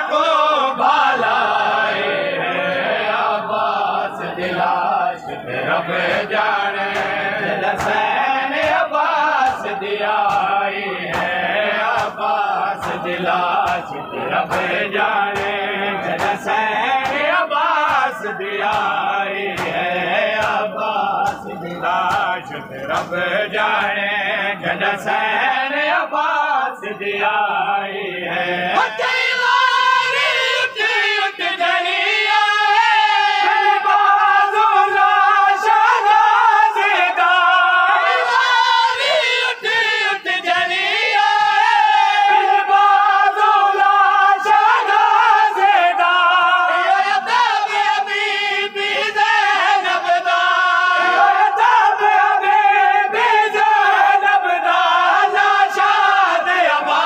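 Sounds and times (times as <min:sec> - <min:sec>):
men chanting a lament: 0:00.0 - 0:57.0
solo reciter: 0:00.0 - 0:57.0.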